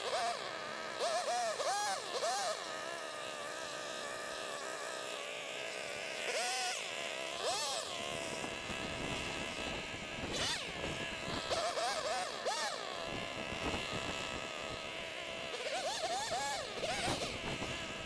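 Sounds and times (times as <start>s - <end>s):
two-stroke cutting tool engine revving: 0.0s - 18.0s.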